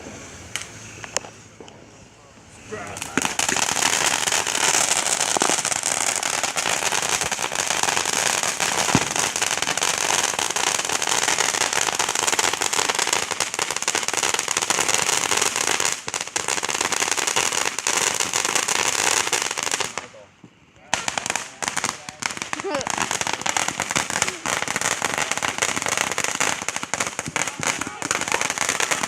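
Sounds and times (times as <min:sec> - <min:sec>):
firecrackers popping: 0:00.0 - 0:29.0.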